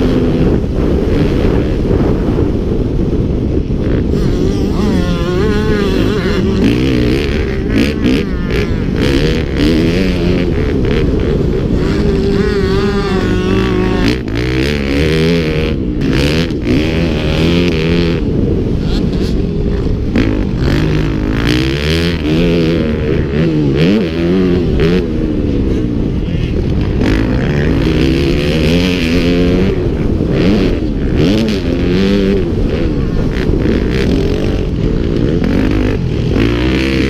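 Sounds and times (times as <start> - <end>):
motocross bikes revving: 0.0 - 37.0.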